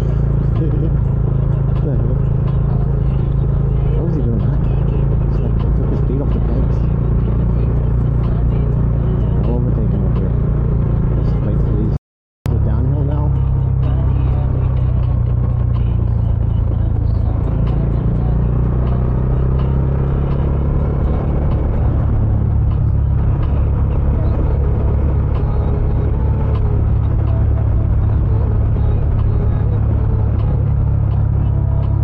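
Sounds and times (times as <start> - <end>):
motorcycle engine droning: 0.0 - 32.0.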